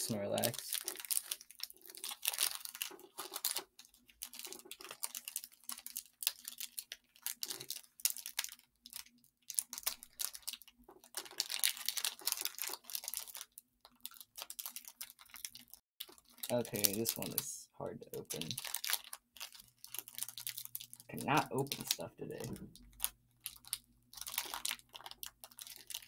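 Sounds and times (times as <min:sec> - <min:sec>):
foil wrapper crinkling and tearing: 0:00.0 - 0:17.5, 0:18.1 - 0:26.0.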